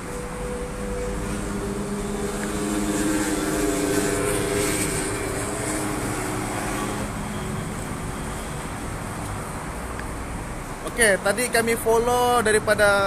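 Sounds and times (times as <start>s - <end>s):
vehicle traffic drone: 0.0s - 13.0s.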